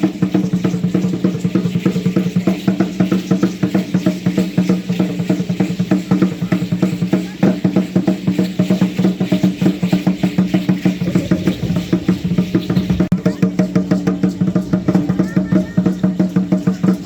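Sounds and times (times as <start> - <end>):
drum beaten fast: 0.0 - 17.0.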